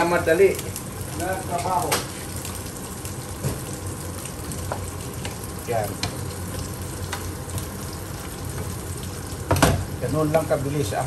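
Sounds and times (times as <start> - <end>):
spinach sizzling in a pan: 0.0 - 11.0.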